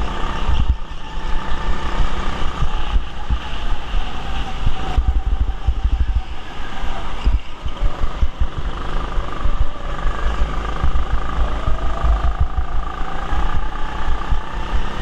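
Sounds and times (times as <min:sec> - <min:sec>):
go-kart motor running: 0:00.0 - 0:15.0
wind buffeting microphone: 0:00.0 - 0:15.0.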